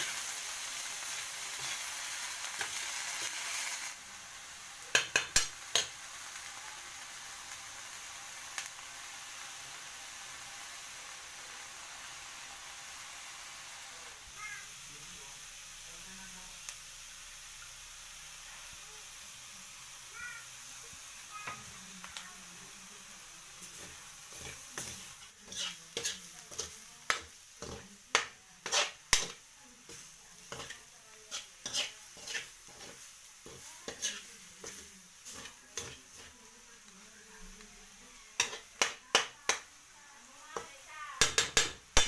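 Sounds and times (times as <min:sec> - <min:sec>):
eggs sizzling in a wok: 0:00.0 - 0:42.0.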